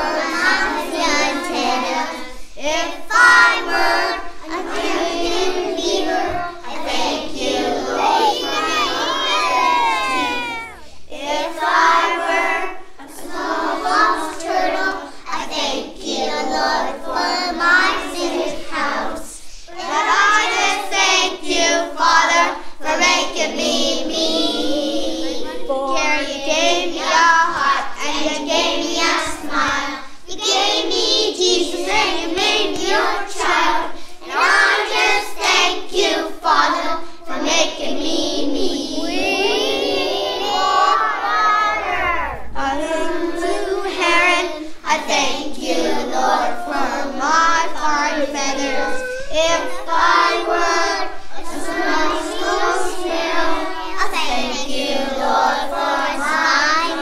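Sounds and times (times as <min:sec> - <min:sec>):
children singing: 0:00.0 - 0:57.0.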